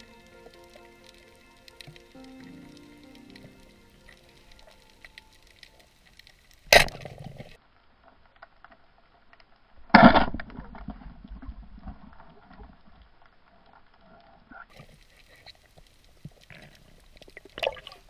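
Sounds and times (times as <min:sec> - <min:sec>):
faint clicking: 0:00.0 - 0:09.7, 0:10.4 - 0:18.0.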